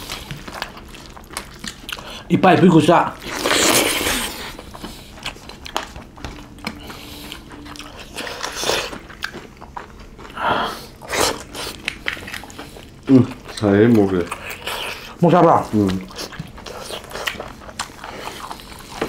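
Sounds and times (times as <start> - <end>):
chewing and wet mouth noises: 0.0 - 19.0.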